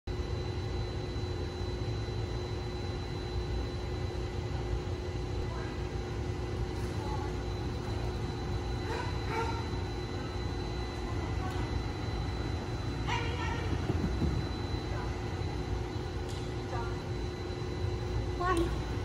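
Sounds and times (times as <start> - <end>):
faint hum: 0.1 - 19.0
low rumble of indoor hall: 0.1 - 19.0.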